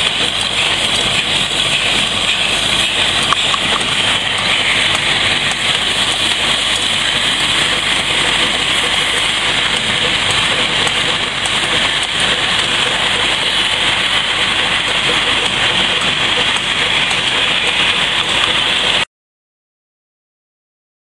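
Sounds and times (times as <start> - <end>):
machine running with hiss: 0.0 - 19.1.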